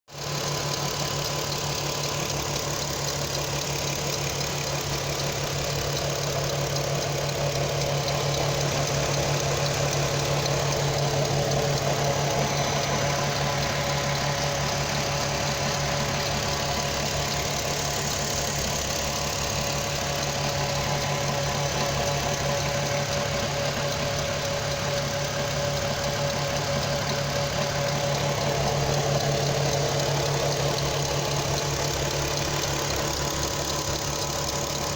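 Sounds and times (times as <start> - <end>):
car engine idling with ticking: 0.1 - 34.9.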